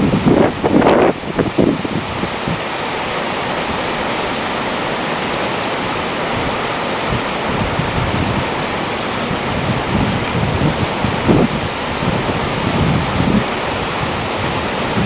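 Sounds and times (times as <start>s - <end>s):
river rushing through rapids: 0.0s - 15.0s.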